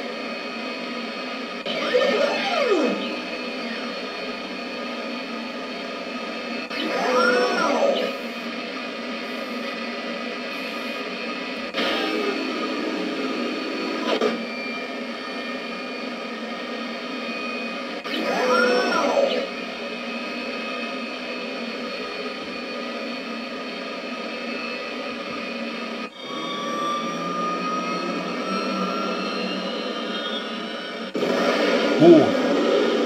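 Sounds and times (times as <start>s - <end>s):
jet engine whine and rush: 0.0s - 33.0s.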